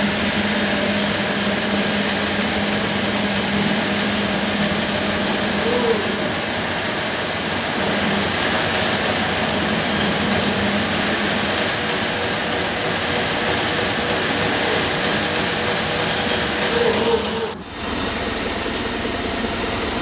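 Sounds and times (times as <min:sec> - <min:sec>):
sawmill running: 0:00.0 - 0:20.0.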